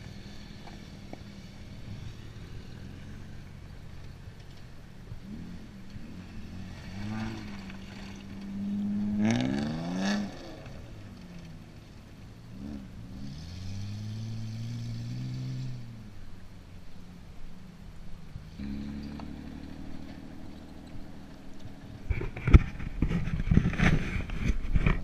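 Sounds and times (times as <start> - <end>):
car engine revving: 0.0 - 16.4, 18.3 - 23.4.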